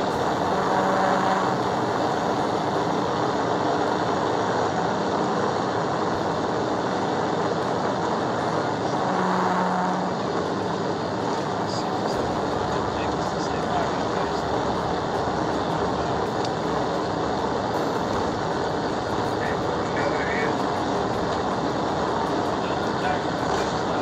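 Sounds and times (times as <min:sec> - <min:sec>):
road and wind noise: 0:00.0 - 0:24.0
steady hum: 0:00.0 - 0:24.0.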